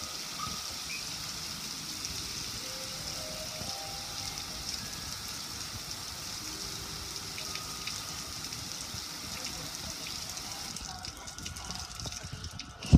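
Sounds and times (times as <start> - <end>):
water pouring and splattering: 0.0 - 12.9.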